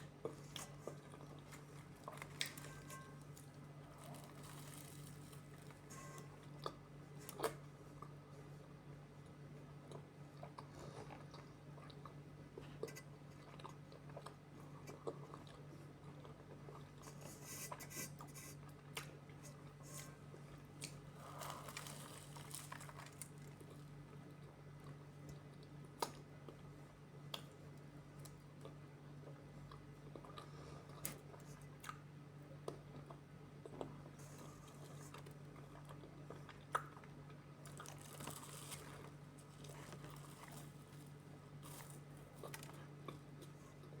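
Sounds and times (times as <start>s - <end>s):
chewing and crunching food: 0.0s - 44.0s
steady low hum: 0.0s - 44.0s.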